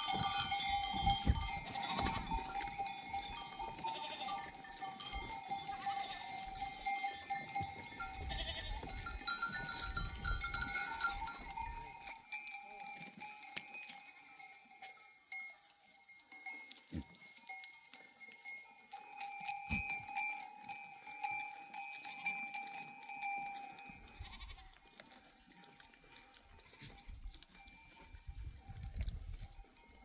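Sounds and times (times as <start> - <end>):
animal bells clinking: 0.0 - 30.0.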